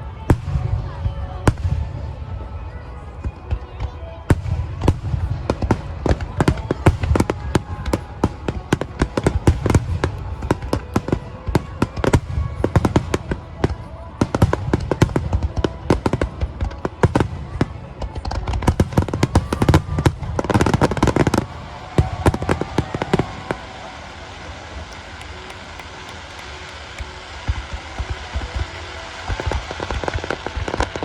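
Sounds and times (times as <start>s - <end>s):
fireworks popping and crackling: 0.0s - 31.0s.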